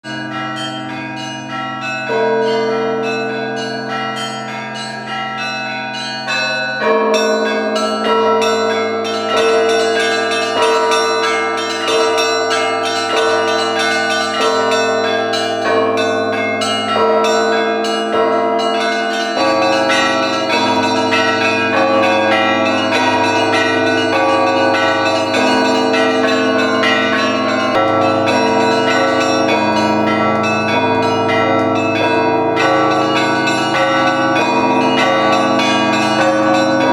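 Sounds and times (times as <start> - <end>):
large bell low hum: 0.0 - 36.9
small church bells ringing: 0.0 - 36.9
mid-pitched bell striking: 7.2 - 36.9.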